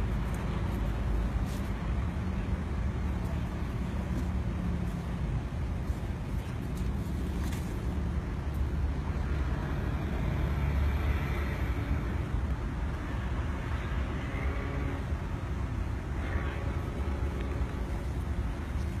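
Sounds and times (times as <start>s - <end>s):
vehicle engine drone with hiss: 0.0s - 19.0s.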